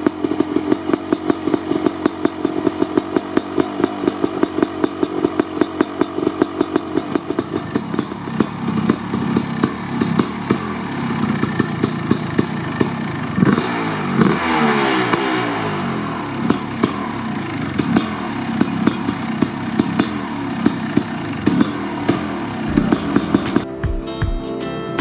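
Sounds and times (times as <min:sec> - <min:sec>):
motorcycle engine idling and revving: 0:00.0 - 0:24.4.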